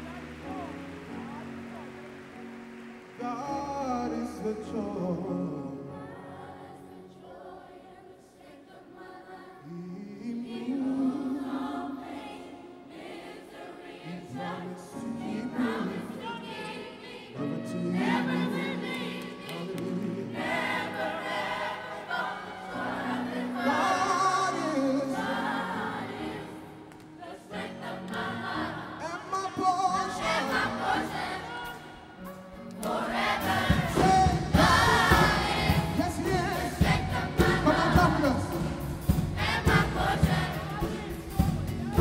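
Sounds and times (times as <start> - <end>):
children's choir singing: 1.6 - 42.0.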